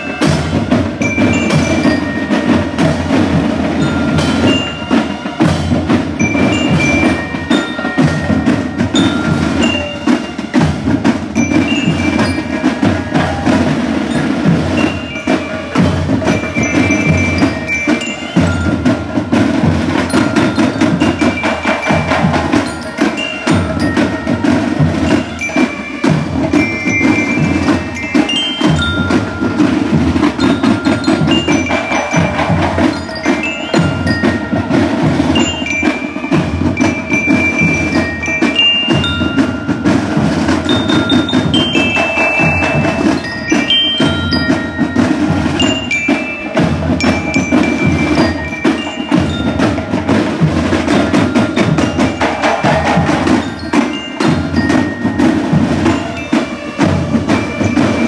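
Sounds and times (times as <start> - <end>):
bell lyres melody: 0.0 - 58.0
marching drums beat: 0.0 - 58.0.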